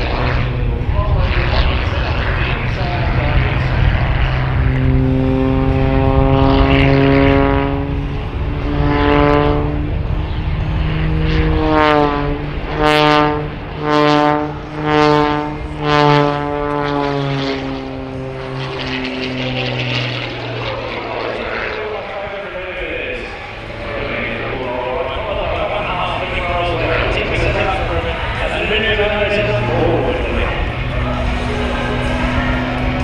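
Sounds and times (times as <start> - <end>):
biplane engine and propeller: 0.0 - 33.0.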